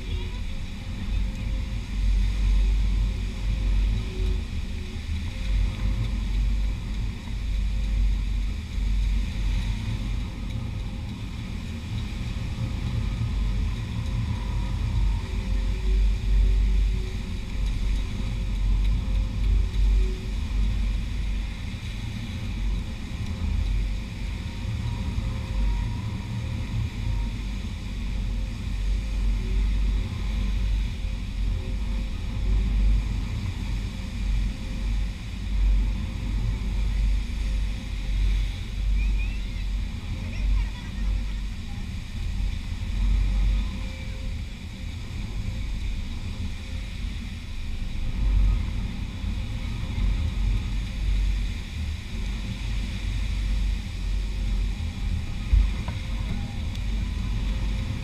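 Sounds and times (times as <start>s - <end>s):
surf on beach: 0.0s - 58.0s
wind buffeting microphone: 0.0s - 58.0s.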